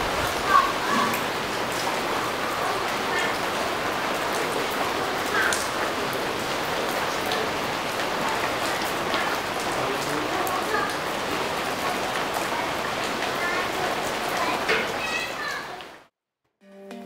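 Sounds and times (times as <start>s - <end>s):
steady rain on trees and roofs: 0.0s - 16.1s.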